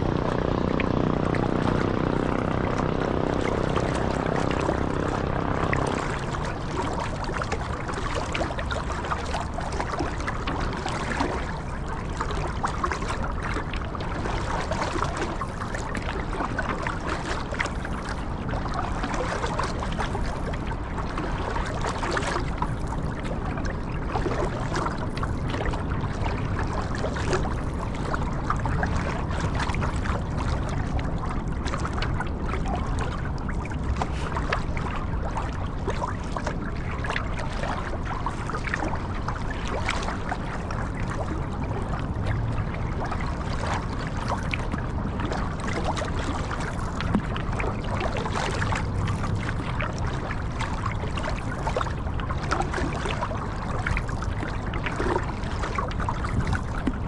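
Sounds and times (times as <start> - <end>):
steady low rumble: 0.0 - 57.0
water splashing and trickling: 0.0 - 57.0.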